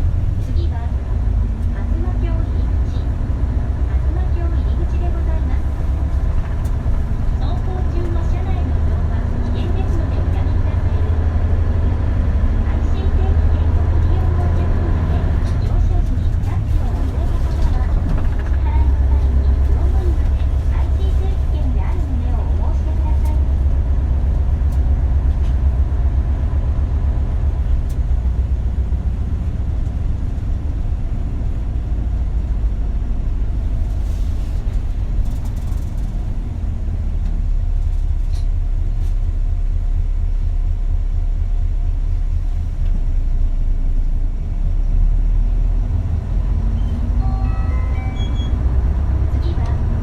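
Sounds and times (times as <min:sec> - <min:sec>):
bus diesel engine rumbling: 0:00.0 - 0:50.0.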